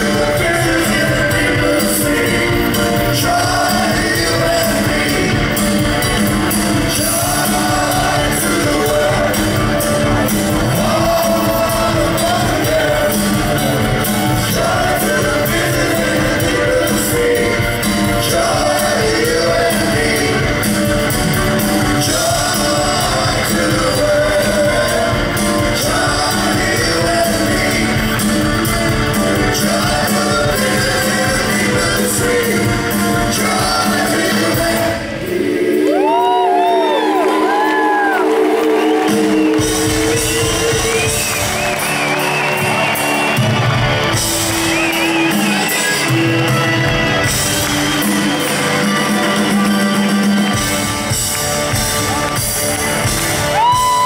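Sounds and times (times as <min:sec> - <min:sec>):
other voices singing: 0:00.0 - 0:46.1
lead vocal singing: 0:00.0 - 0:46.2
live rock band playing: 0:00.0 - 0:54.0.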